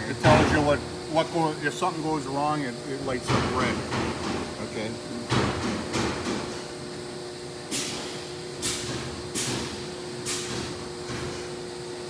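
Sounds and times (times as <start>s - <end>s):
steady two-tone machine hum: 0.0s - 12.0s.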